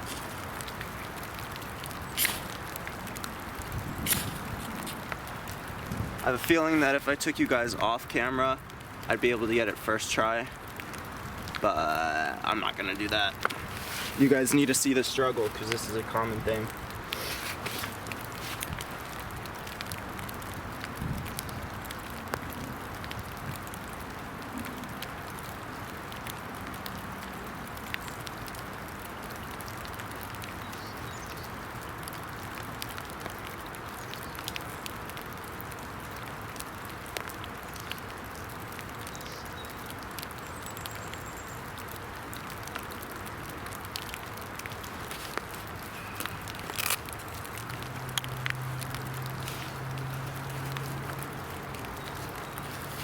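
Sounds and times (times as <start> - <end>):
rain hissing: 0.0 - 53.0.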